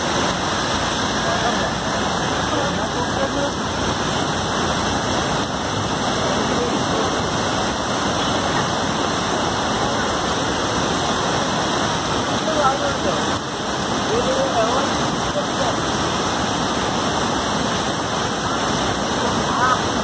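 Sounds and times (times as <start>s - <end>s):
heavy rain: 0.0s - 20.0s
river rushing: 0.0s - 20.0s.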